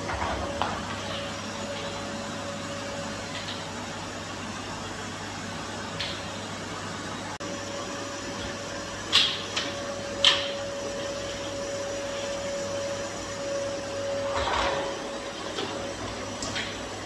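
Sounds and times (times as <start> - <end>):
vacuum cleaner humming: 0.0 - 17.0.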